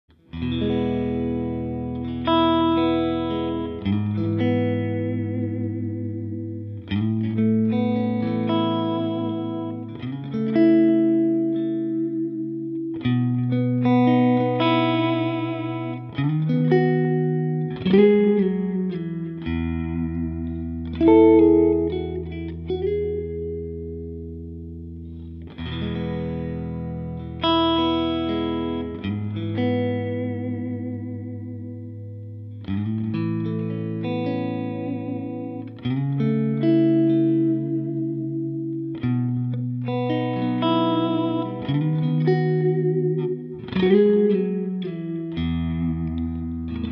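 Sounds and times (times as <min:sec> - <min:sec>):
electric guitar chords: 0:00.1 - 0:46.9.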